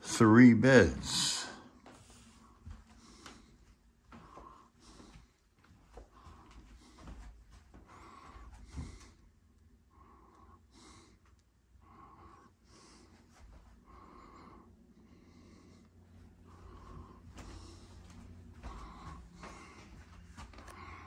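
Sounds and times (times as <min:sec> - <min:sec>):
faint breathing: 0:00.7 - 0:21.0.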